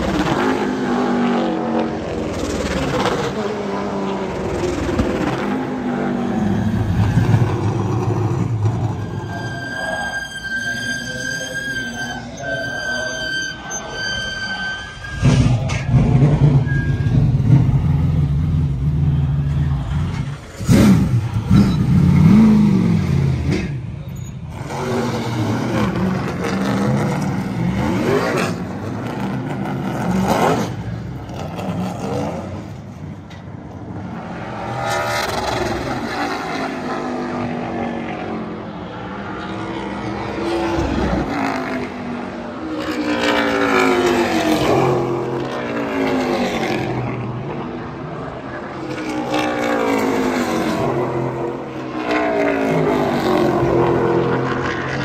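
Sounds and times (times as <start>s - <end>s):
race car engines passing by: 0.0s - 55.0s.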